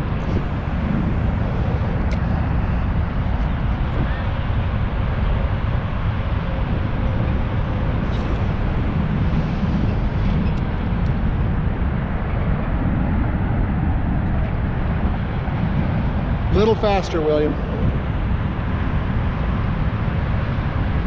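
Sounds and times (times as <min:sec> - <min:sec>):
outdoor rushing noise: 0:00.0 - 0:21.0.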